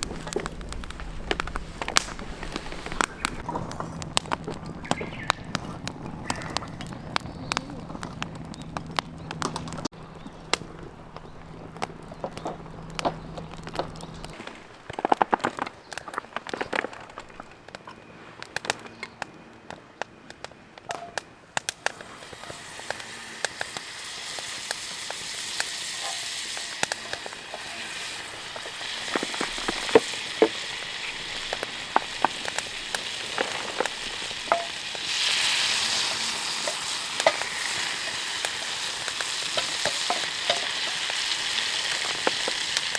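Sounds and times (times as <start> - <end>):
frying sizzle: 0.0 - 14.8, 21.6 - 42.9
campfire crackling and popping: 0.0 - 42.9.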